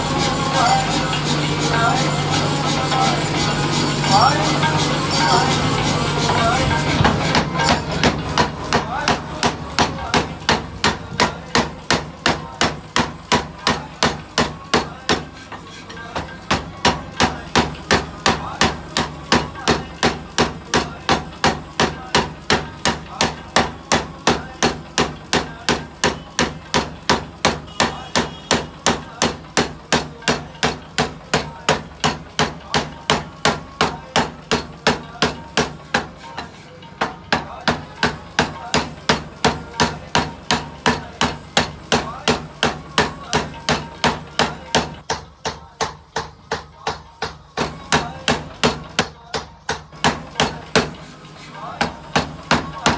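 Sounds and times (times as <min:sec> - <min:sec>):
power hammer pounding iron: 0:00.0 - 0:52.9.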